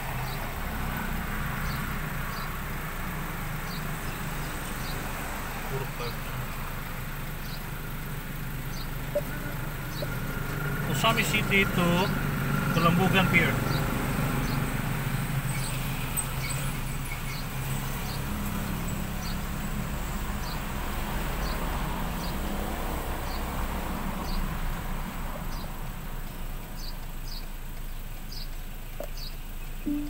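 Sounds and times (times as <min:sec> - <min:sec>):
car engine and road hum: 0:00.0 - 0:30.0.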